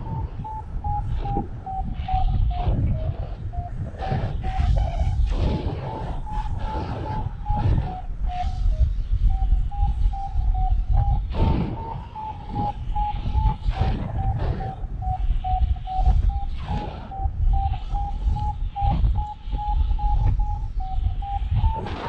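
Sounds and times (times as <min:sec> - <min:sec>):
variometer beeping: 0:00.0 - 0:22.0
wind buffeting microphone: 0:00.0 - 0:22.0.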